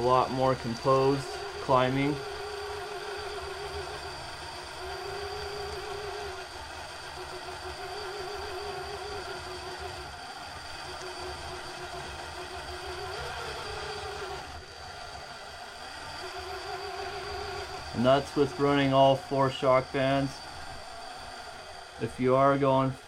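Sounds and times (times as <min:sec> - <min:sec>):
electric motor and gears whining: 0:00.0 - 0:23.0.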